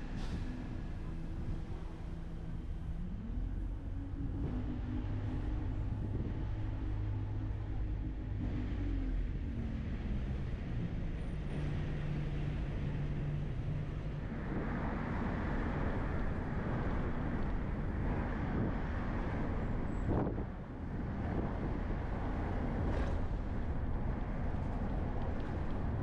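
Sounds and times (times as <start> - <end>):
engine hum: 0.0 - 26.0
rumble of road traffic: 0.0 - 26.0
rushing wind and tyre noise: 0.0 - 26.0.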